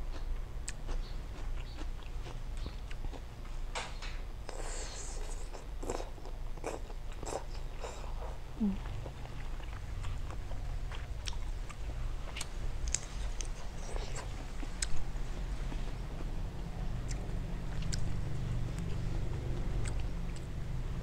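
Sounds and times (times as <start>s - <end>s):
person chewing food: 0.0s - 3.6s, 4.5s - 16.4s, 17.0s - 20.5s.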